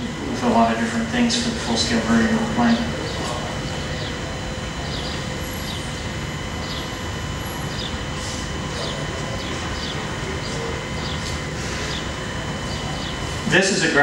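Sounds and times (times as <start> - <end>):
faint hum: 0.0 - 14.0
low mechanical rumble: 0.0 - 14.0.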